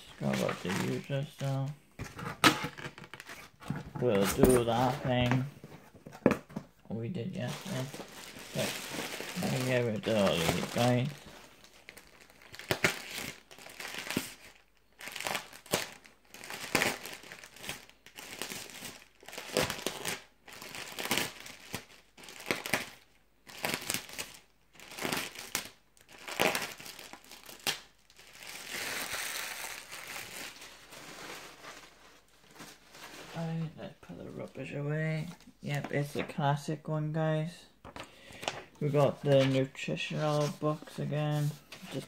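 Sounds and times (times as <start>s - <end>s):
packaging crinkling by hand: 0.0s - 6.5s, 7.2s - 34.6s, 37.8s - 42.0s.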